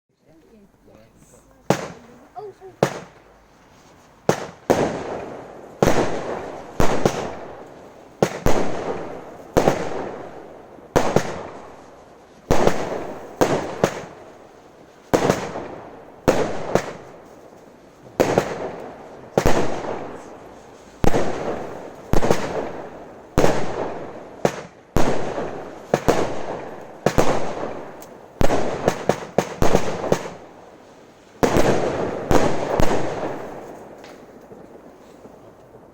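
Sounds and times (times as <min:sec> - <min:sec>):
firework shots: 0:01.3 - 0:35.9.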